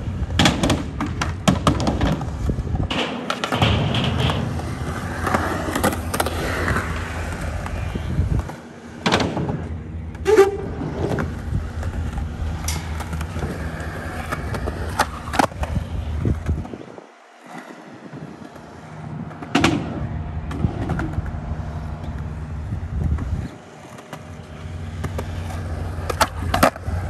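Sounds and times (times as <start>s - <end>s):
skateboard wheels rolling on concrete: 0.0s - 27.0s
skateboard clacking on concrete: 0.2s - 19.9s, 23.1s - 27.0s.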